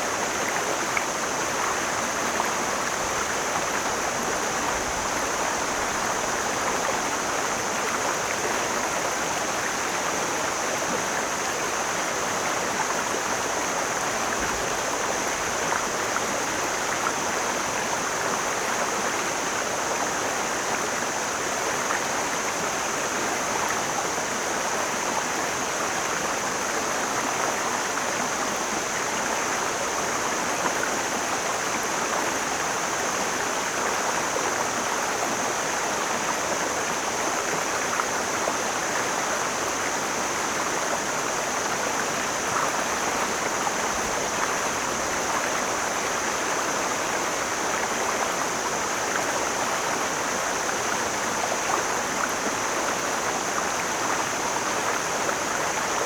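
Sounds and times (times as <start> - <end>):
mountain stream flowing: 0.0 - 56.0.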